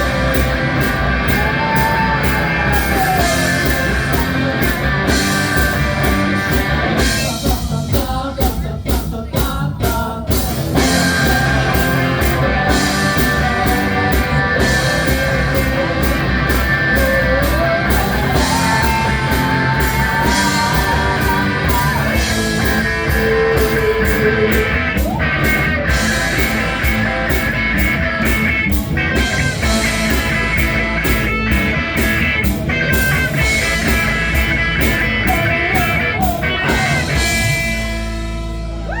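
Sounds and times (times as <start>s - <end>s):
steady drum beat: 0.0s - 38.9s
electric guitar: 0.0s - 39.0s.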